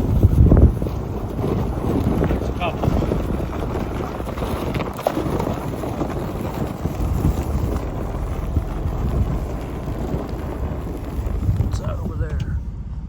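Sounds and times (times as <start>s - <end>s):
vehicle driving rumble: 0.0s - 13.0s
wind buffeting microphone: 0.0s - 13.0s.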